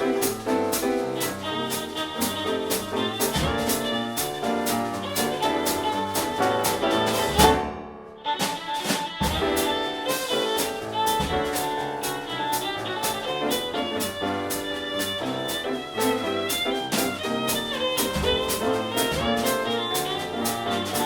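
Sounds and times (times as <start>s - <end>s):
jazz trio playing: 0.0s - 21.0s.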